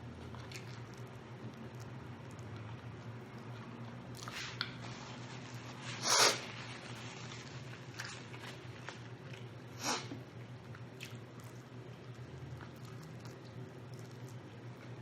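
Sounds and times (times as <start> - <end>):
biting and chewing: 0.2 - 9.6, 10.7 - 15.0.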